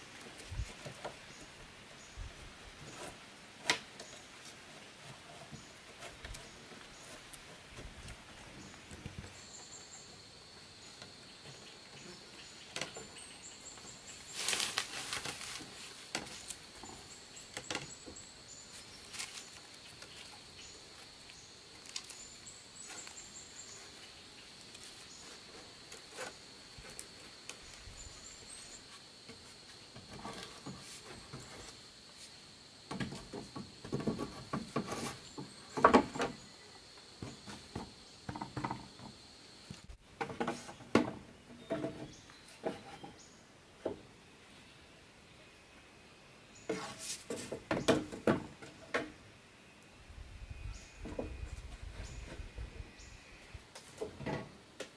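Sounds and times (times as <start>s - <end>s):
bamboo poles knocking and scraping: 0.0s - 1.6s, 2.8s - 9.8s, 11.0s - 21.1s, 21.8s - 36.6s, 37.2s - 43.2s, 43.8s - 44.1s, 46.7s - 49.2s, 51.0s - 52.7s, 53.7s - 54.9s.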